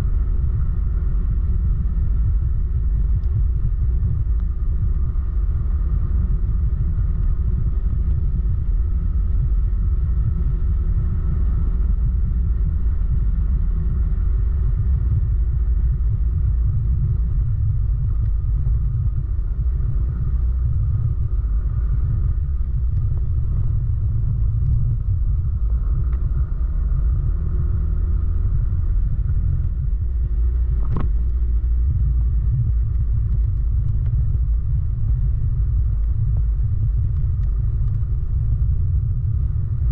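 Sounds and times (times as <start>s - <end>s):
faint engine drone: 0.0s - 39.9s
wind and road noise: 0.0s - 39.9s.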